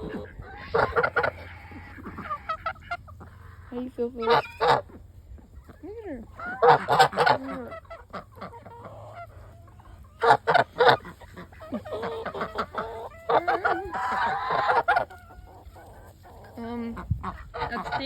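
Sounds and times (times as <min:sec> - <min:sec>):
chickens and ducks calling: 0:00.0 - 0:18.0.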